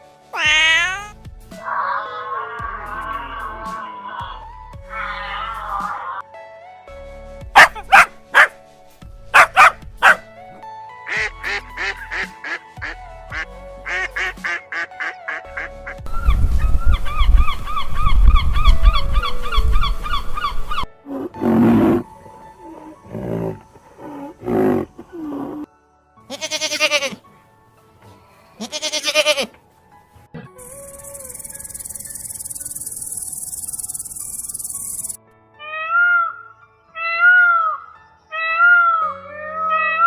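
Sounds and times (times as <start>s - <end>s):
background music: 0.0s - 40.0s.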